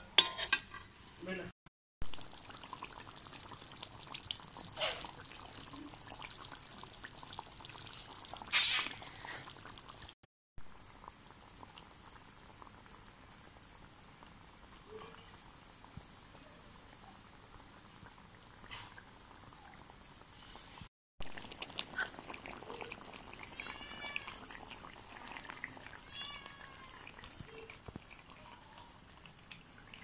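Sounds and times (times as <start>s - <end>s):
curry simmering and spluttering: 2.0s - 30.0s.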